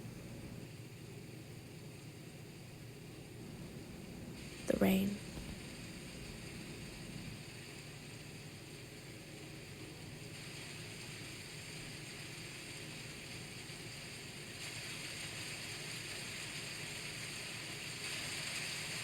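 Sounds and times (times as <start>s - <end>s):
rain falling steadily: 0.0s - 19.0s.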